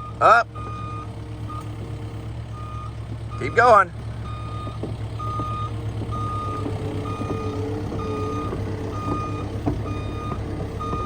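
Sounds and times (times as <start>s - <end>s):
travel alarm beeping: 0.0s - 1.7s, 2.6s - 11.0s
excavator engine running: 0.0s - 11.0s.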